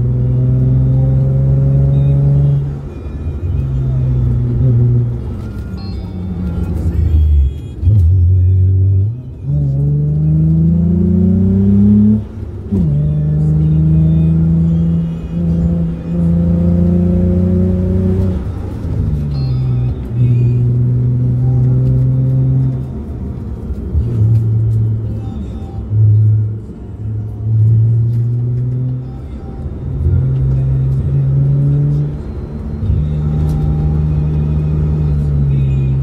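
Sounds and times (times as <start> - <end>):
car engine accelerating through gears: 0.0 - 36.0.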